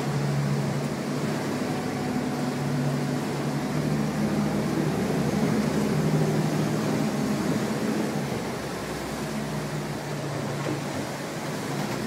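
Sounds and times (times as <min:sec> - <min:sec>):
boat engines droning: 0:00.0 - 0:12.0.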